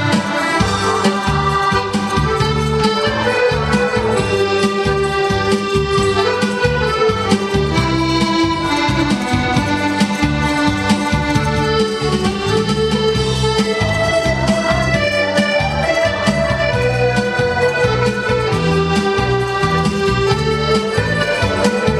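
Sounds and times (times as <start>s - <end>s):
piano accordion melody: 0.0s - 21.9s
pulsing bass rhythm: 0.0s - 21.9s.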